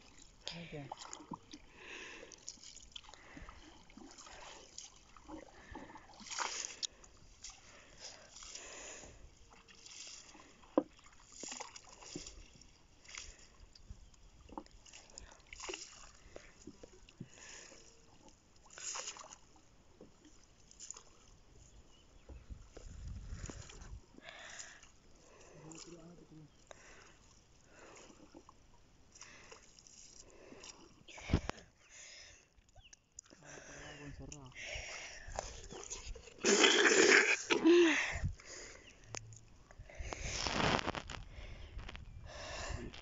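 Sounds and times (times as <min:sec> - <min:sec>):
water sloshing and splashing: 0:00.0 - 0:43.0.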